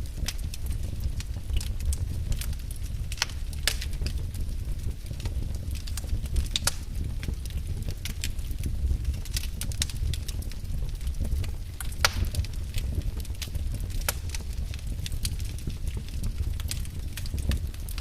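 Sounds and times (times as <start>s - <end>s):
wood fire burning: 0.0s - 18.0s.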